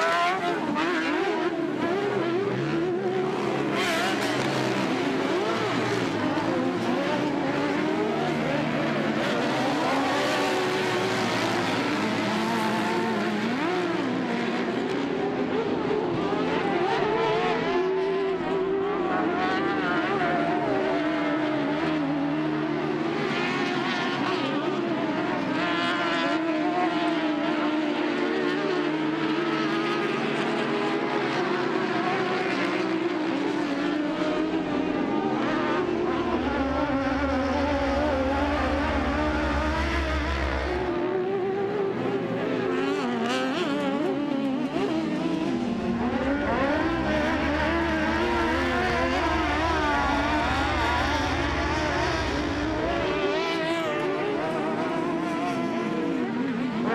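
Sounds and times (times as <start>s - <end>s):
race engines revving: 0.0s - 56.9s.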